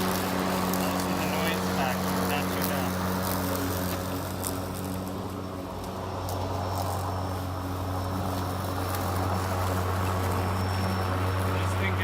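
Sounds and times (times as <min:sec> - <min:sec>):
electric lawn mower humming: 0:00.0 - 0:12.0.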